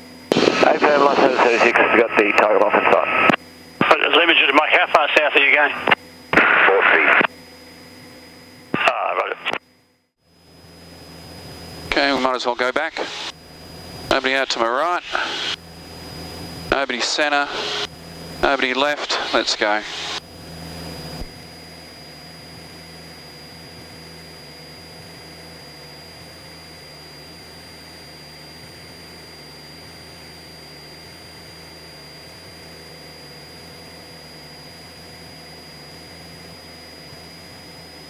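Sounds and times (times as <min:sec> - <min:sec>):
high whine: 0:00.0 - 0:38.0
muffled airplane engine drone: 0:00.0 - 0:38.0.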